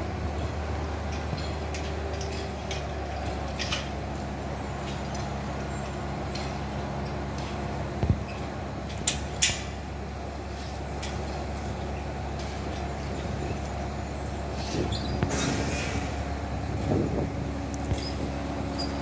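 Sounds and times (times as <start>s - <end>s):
lift chain mechanical hum: 0.0s - 19.0s.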